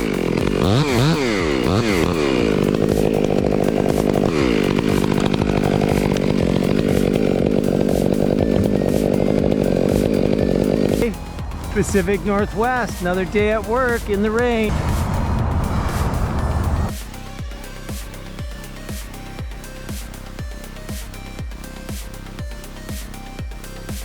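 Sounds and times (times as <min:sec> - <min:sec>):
chainsaw revving: 0:00.0 - 0:24.0.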